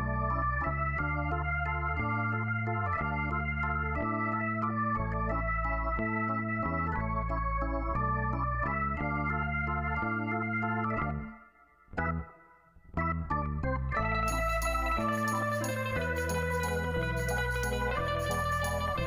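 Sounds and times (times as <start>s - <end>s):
low bass line: 0.0s - 19.0s
organ-like keyboard chords: 0.0s - 19.0s.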